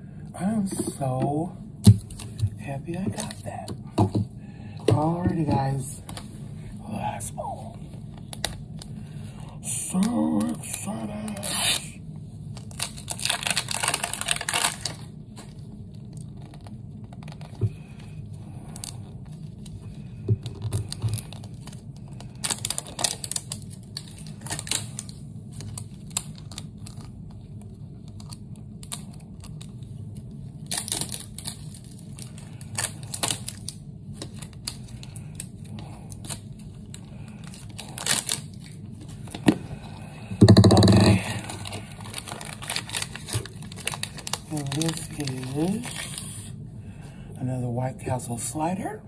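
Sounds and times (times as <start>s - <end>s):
plastic packaging crinkling: 1.9s - 3.7s, 7.4s - 46.6s.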